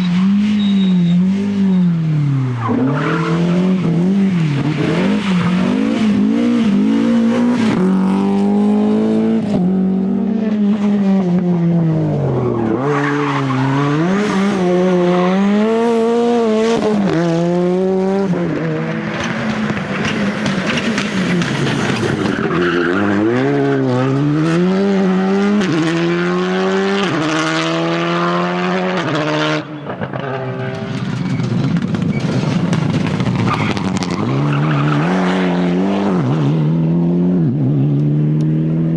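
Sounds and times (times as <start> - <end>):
rally car engines at full throttle: 0.0 - 38.9.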